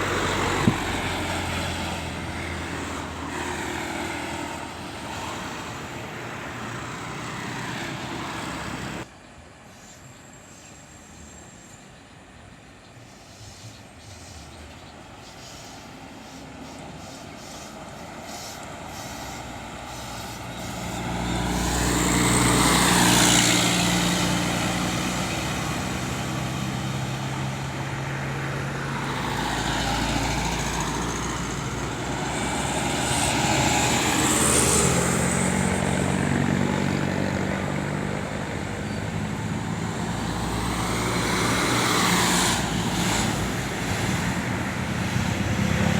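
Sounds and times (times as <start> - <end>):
buses passing: 0.0 - 45.9.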